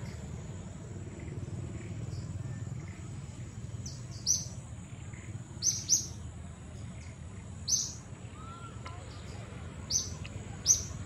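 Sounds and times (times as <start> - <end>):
low forest rumble: 0.0 - 11.0
bird chirps: 1.1 - 11.0.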